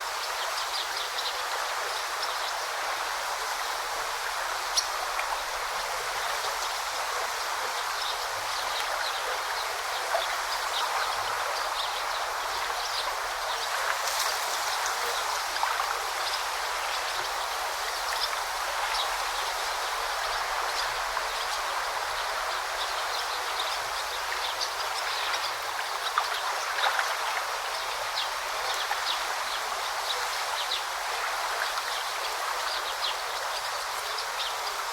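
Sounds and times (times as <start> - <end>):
stream babbling over rocks: 0.0 - 34.9.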